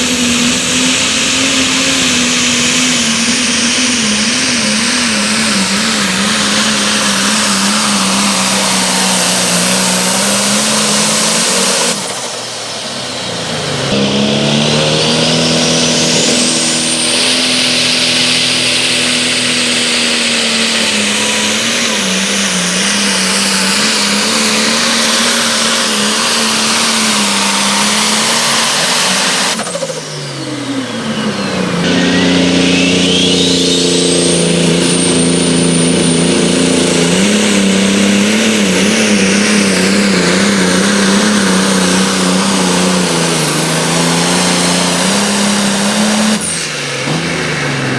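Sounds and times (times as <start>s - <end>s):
engine at full power: 0.0s - 47.9s
high whine: 0.0s - 47.9s.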